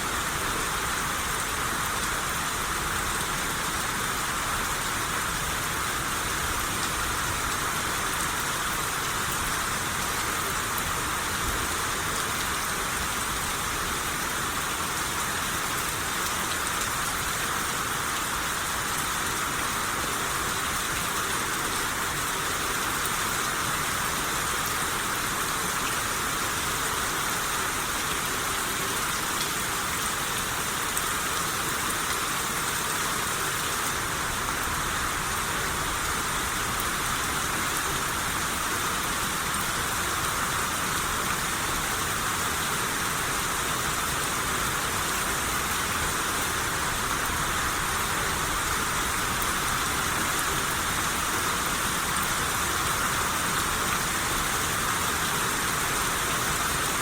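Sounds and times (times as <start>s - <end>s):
rain shower hissing: 0.0s - 57.0s.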